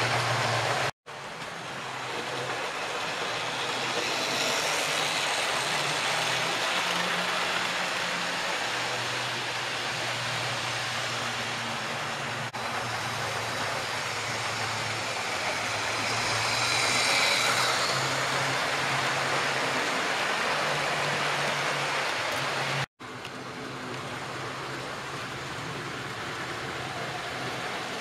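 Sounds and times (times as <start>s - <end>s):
model steam locomotive: 0.0s - 22.9s, 23.6s - 28.0s
model trains whirring on track: 0.0s - 28.0s.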